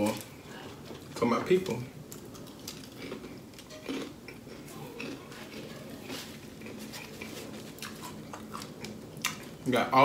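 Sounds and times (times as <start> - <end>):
food handling noise: 0.0 - 9.6.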